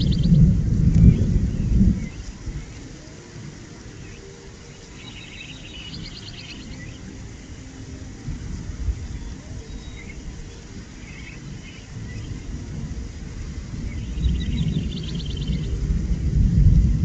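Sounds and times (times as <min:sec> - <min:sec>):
insects chirping: 0:00.0 - 0:17.0
low thunder rumble: 0:00.0 - 0:17.0.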